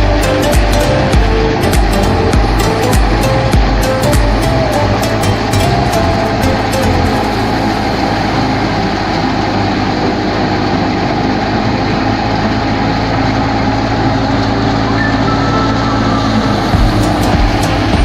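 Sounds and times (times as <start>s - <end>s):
farm machinery engine running: 0.0s - 18.0s.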